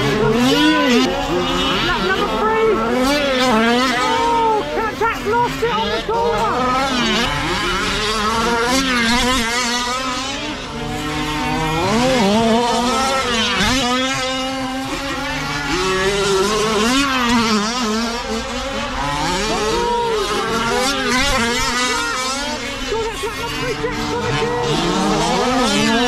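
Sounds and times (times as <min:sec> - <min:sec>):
rc truck engines revving: 0:00.0 - 0:26.0.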